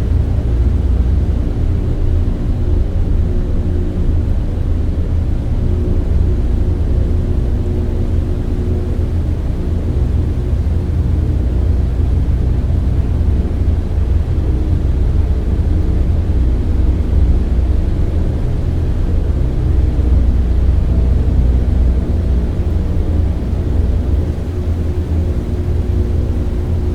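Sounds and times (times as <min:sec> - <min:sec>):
airplane cabin drone: 0:00.0 - 0:26.9.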